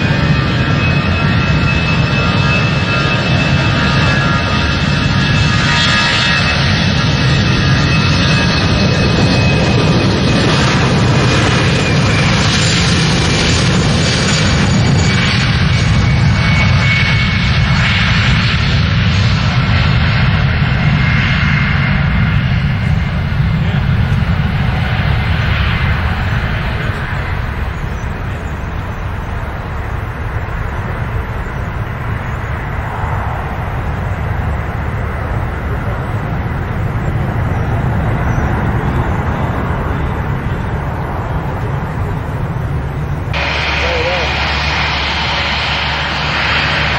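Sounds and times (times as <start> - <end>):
jet engines at high power: 0.0 - 46.9.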